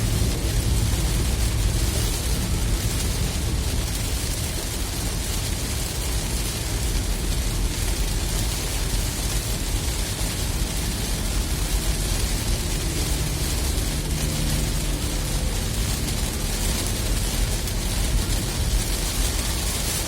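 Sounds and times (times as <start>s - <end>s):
low road rumble: 0.0s - 20.0s
rain and tyre spray hiss: 0.0s - 20.0s.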